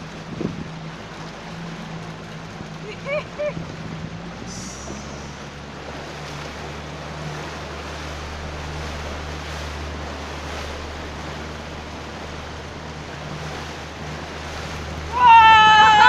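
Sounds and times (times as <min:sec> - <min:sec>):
low engine hum: 0:00.0 - 0:16.0
water rushing past boat: 0:00.0 - 0:16.0.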